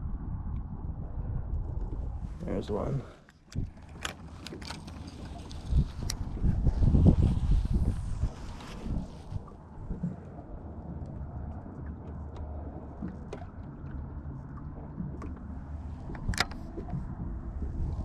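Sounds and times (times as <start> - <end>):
fishing boat engine humming: 2.5 - 7.0, 7.9 - 18.0.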